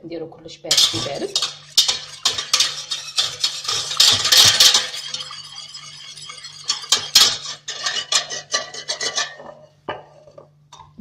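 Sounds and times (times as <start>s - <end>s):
utensil stirring and scraping in bowl: 0.7s - 9.6s.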